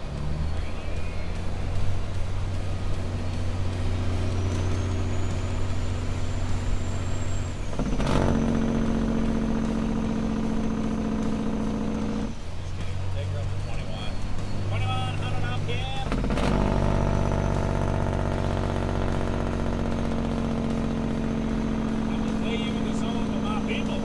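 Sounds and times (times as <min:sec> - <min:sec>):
diesel engine running: 0:00.0 - 0:24.0
thin engine whine: 0:00.0 - 0:24.0.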